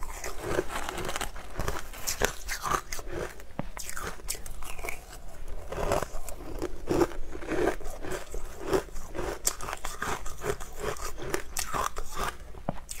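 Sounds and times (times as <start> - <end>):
chewing crushed ice: 0.0 - 13.0.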